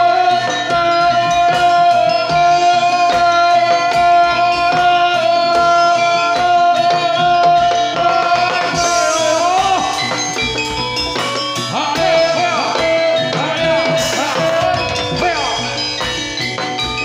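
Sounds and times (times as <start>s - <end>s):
drum strokes: 0.0s - 17.0s.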